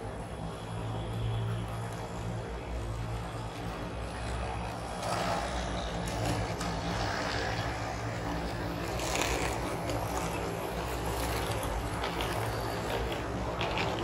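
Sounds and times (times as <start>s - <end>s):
low motor hum: 0.0s - 14.0s
model train wheels on rails: 0.0s - 14.0s.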